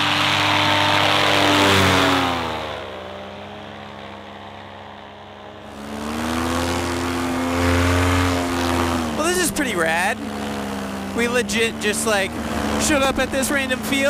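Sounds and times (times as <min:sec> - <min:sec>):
paramotor engine and propeller: 0:00.0 - 0:14.0.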